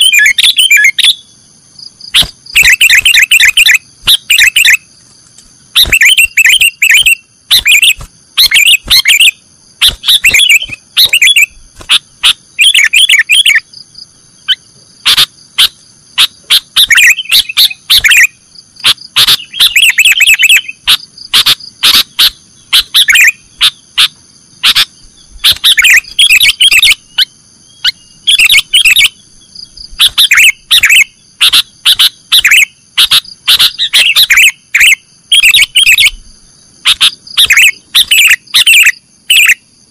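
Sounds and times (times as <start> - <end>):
bird singing chirping phrases: 0.0 - 39.6.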